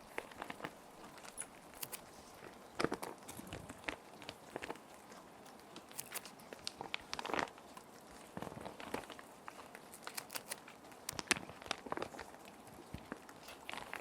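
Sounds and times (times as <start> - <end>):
plastic sheets crinkling: 0.0 - 14.0.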